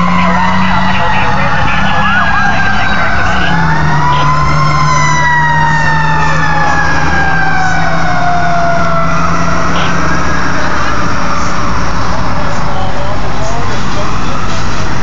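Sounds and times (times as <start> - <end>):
fire truck siren wailing: 0.0 - 15.0.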